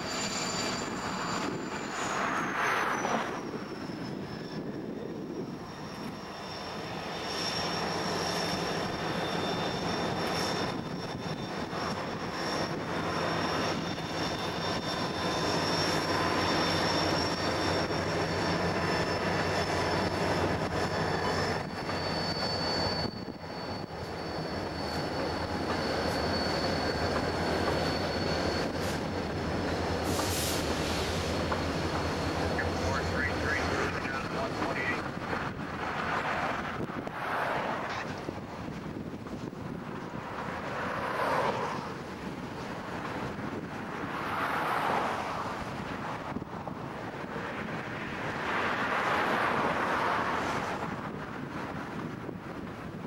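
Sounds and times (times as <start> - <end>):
diesel locomotives passing: 0.0 - 53.0.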